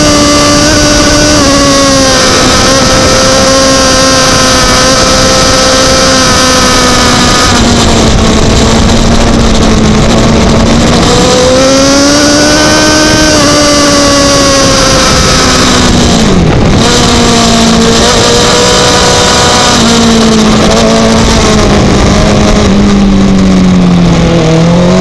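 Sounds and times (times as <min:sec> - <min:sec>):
motorcycle engine at speed: 0:00.0 - 0:25.0
wind rush: 0:00.0 - 0:25.0.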